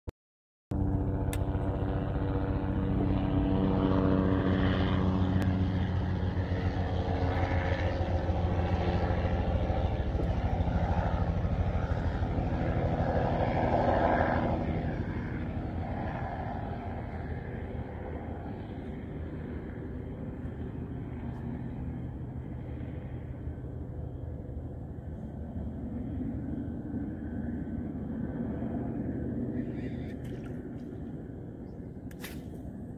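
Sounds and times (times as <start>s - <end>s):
engine drone: 0.7s - 32.9s.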